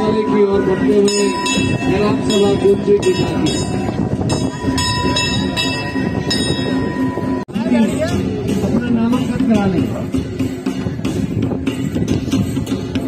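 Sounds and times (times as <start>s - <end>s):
ringing metal percussion: 0.0s - 13.0s.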